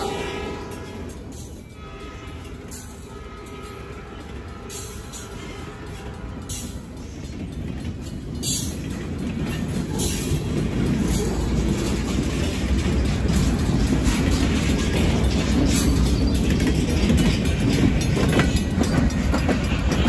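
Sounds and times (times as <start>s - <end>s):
crossing bell ringing: 0.0s - 20.0s
train wheels rumbling on rail: 0.0s - 20.0s
wheels clacking over rail joints: 0.0s - 20.0s.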